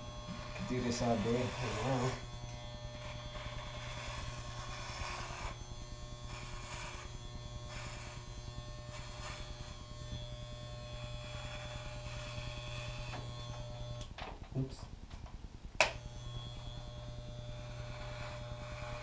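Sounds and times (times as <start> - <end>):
electric hair clippers buzzing: 0.0 - 14.1, 15.8 - 19.0.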